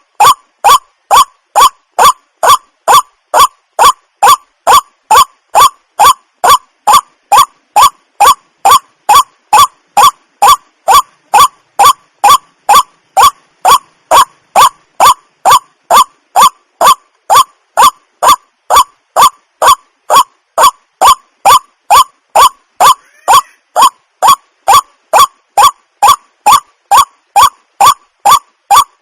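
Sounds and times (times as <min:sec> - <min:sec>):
waterhen wak calls: 0:00.2 - 0:28.9.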